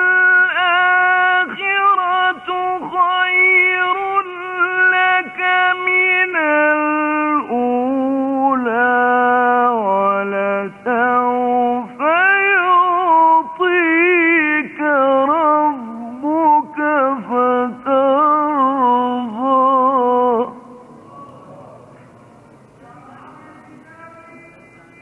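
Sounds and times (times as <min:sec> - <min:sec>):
man chanting recitation: 0:00.0 - 0:22.2, 0:22.8 - 0:25.0.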